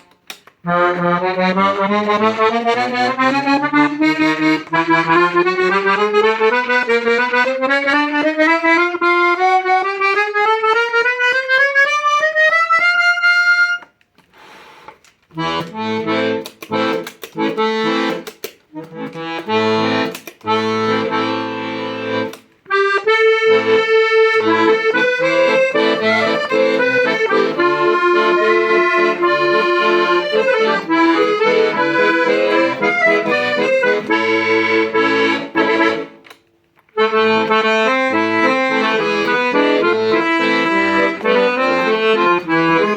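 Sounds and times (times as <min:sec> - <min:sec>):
accordion playing: 0:00.0 - 0:42.9.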